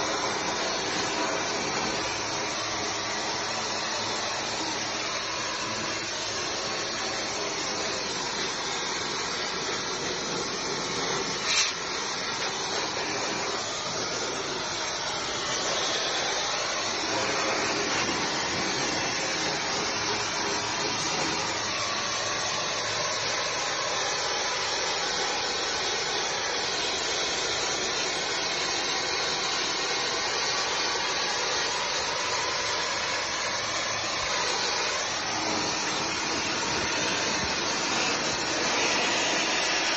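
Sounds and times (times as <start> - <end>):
spray lance hissing on brick: 0.0 - 39.9.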